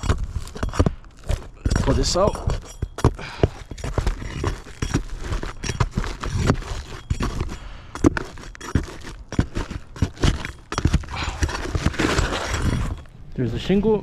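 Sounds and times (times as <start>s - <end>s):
roof shingle scraping and crackling: 0.0s - 13.2s.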